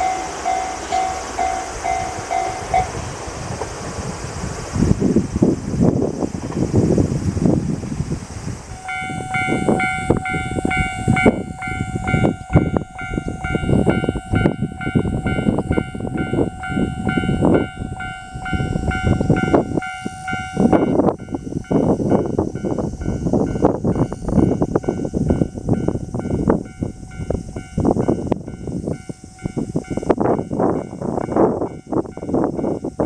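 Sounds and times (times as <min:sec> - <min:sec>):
level-crossing alarm ringing: 0:00.0 - 0:03.1, 0:08.8 - 0:33.0.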